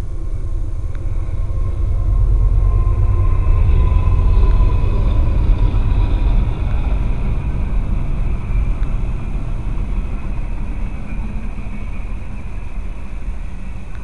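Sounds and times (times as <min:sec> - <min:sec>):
faint whine: 0:00.0 - 0:14.0
freight train rumbling past: 0:00.0 - 0:14.0.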